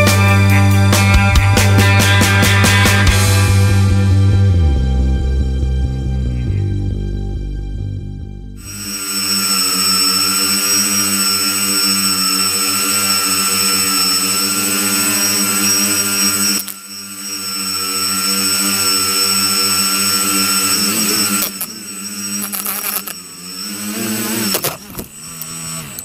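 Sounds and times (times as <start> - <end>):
drone propellers whirring: 0.0 - 6.4, 8.5 - 26.0.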